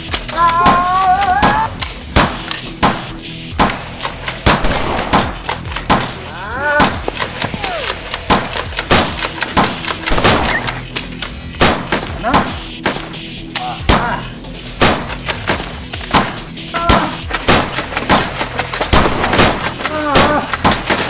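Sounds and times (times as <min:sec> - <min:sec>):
action music with bass: 0:00.0 - 0:21.0.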